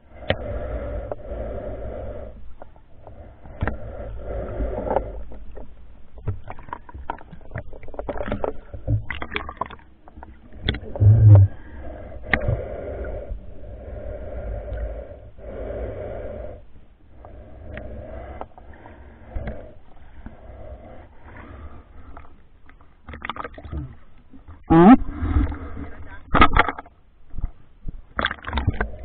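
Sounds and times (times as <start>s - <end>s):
underwater sloshing and bubbling: 0.0s - 29.0s.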